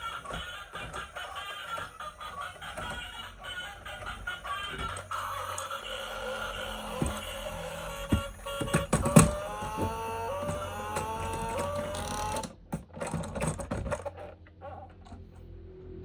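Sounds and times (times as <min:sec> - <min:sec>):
plastic toy clicks and rattles: 0:00.0 - 0:14.4.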